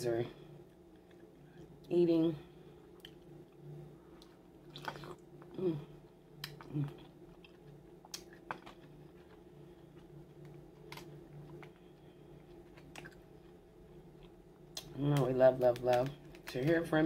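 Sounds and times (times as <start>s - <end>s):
steady low hum: 0.0s - 17.0s
close chewing and mouth sounds: 0.6s - 1.9s, 2.8s - 16.9s.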